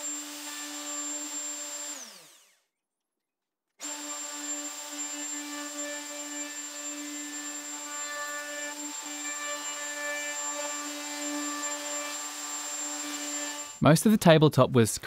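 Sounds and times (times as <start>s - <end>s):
router motor whining: 0.0s - 2.7s, 3.8s - 13.8s.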